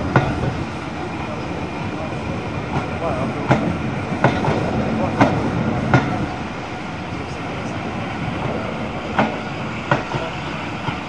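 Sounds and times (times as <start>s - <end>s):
rumble of train wheels on rail: 0.0s - 11.0s.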